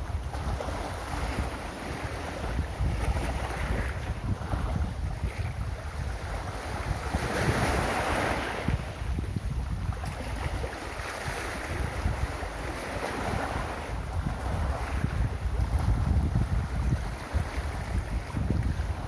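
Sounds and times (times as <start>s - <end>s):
ocean waves on a beach: 0.0s - 19.0s
wind rumbling on microphone: 0.0s - 19.0s.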